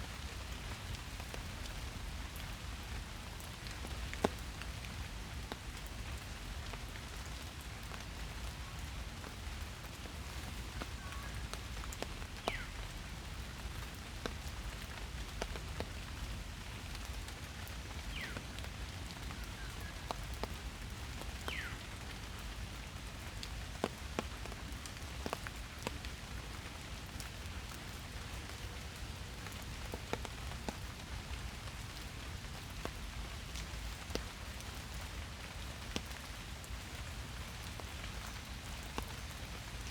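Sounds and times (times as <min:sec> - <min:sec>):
steady rain in a forest: 0:00.0 - 0:39.9
single raindrops striking close: 0:00.2 - 0:39.8.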